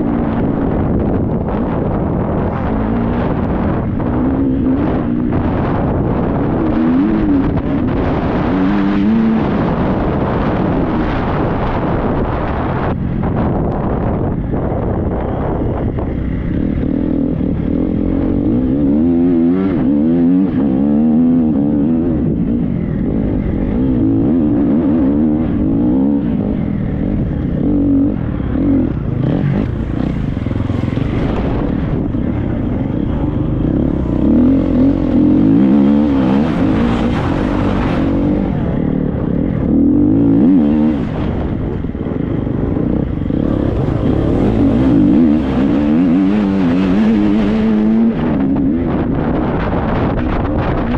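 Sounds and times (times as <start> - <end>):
motocross bike engine revving: 0.0 - 12.9, 16.3 - 50.9
wind noise on microphone: 0.0 - 50.9.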